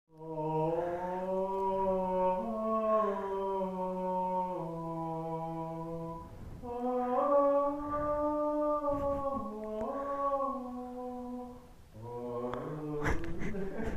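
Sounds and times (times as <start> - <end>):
man singing operatic notes: 0.1 - 13.5.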